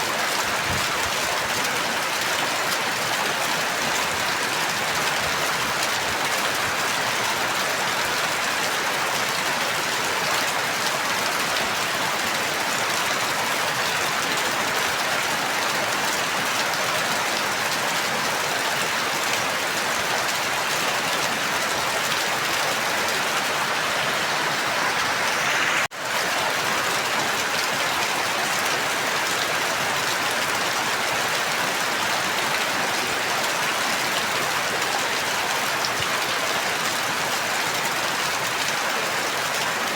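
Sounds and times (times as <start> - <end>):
dense rainfall: 0.0 - 39.9.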